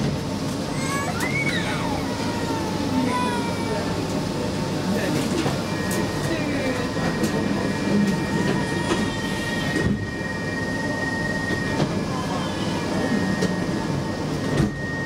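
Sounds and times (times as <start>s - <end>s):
subway car low hum: 0.0s - 15.0s
faint voices: 0.6s - 14.5s.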